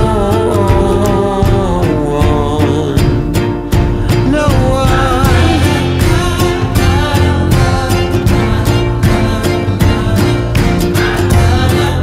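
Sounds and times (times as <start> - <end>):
country song with guitar and drums: 0.0 - 12.0.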